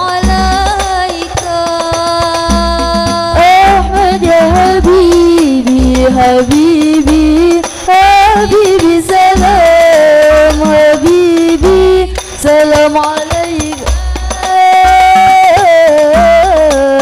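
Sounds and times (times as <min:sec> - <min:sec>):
deep frame drum beats: 0:00.0 - 0:17.0.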